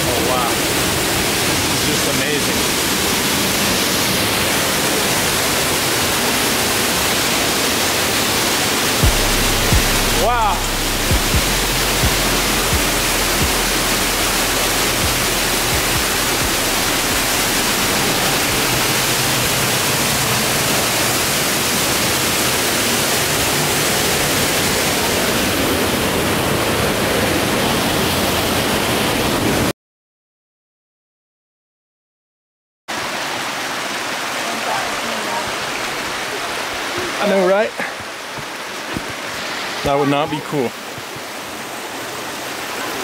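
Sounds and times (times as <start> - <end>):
waterfall pouring onto rocks: 0.0 - 28.6, 32.9 - 43.0.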